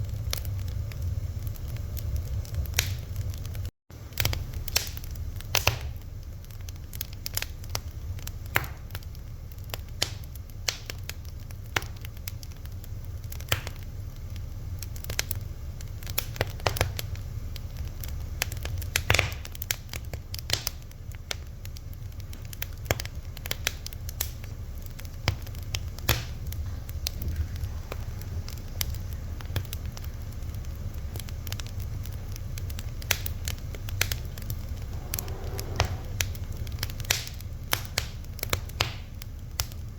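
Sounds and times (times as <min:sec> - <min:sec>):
fire crackling with pops: 0:00.0 - 0:39.9
low steady rumble: 0:00.0 - 0:39.9.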